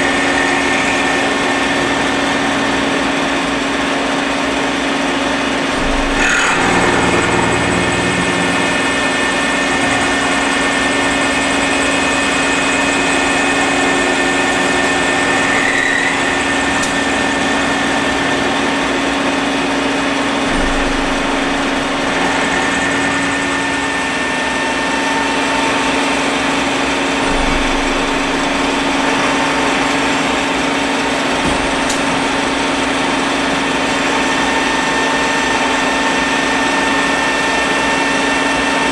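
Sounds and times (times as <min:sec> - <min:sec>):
lathe humming and whining: 0:00.0 - 0:38.9.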